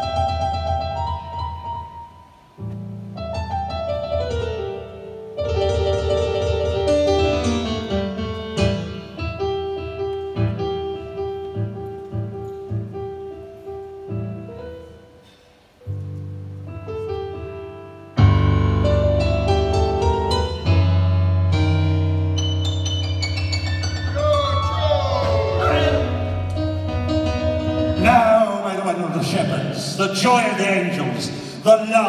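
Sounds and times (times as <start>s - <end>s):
keyboard piano playing: 0.0s - 30.2s.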